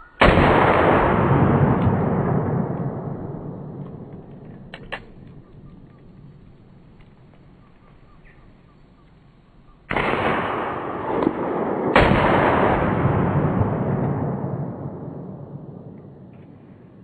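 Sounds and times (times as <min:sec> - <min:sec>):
slowed-down revolver shots: 0:00.2 - 0:07.4, 0:09.8 - 0:17.0.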